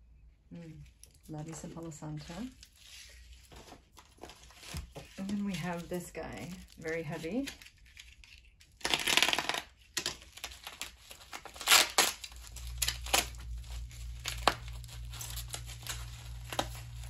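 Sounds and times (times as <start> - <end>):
packaging wrap crinkling and tearing: 2.4 - 17.0.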